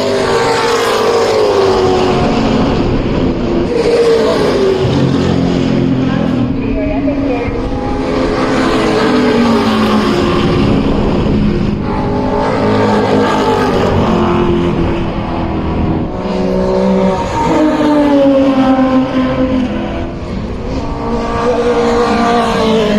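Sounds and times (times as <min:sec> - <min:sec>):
racing car engine revving: 0:00.0 - 0:22.9.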